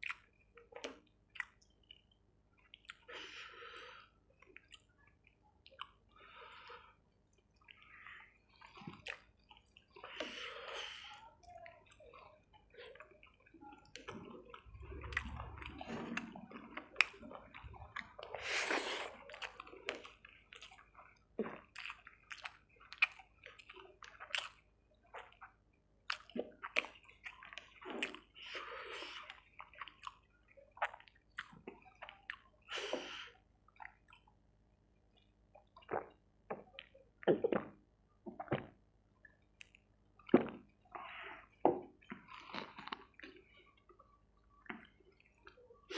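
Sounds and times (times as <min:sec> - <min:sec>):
wet chewing: 0:00.0 - 0:34.4, 0:35.1 - 0:45.9.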